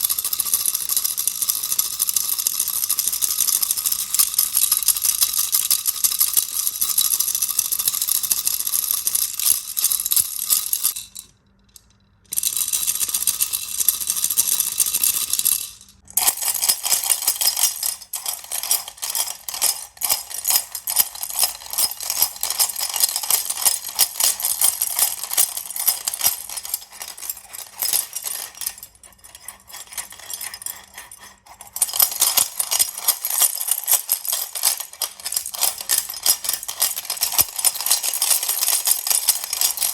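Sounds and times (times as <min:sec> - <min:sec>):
toy rattle shaken rapidly: 0:00.0 - 0:11.3, 0:12.3 - 0:39.9.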